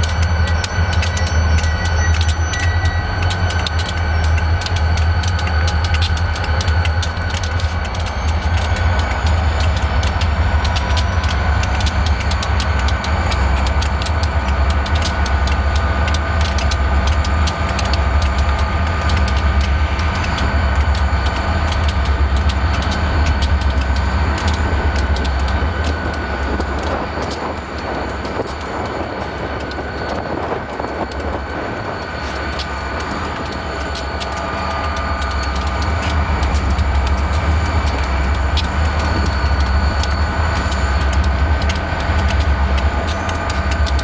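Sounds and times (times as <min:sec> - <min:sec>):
high-pitched whine: 0:00.0 - 0:44.0
locomotive engines idling rumble: 0:00.0 - 0:44.0.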